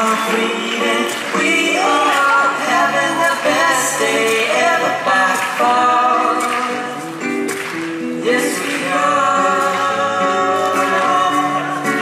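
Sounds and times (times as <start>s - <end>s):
live band music: 0.0s - 12.0s
people singing: 0.0s - 12.0s.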